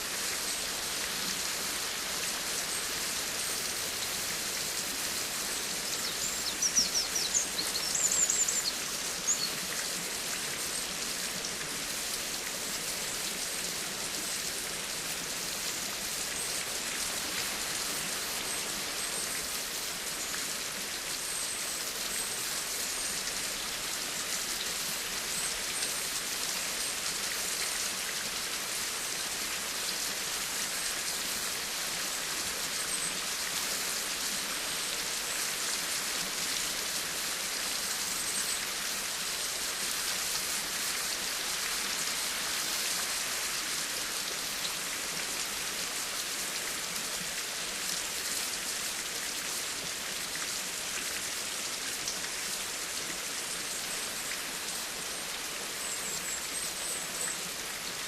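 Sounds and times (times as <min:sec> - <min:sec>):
steady rain on a surface: 0:00.0 - 0:58.0.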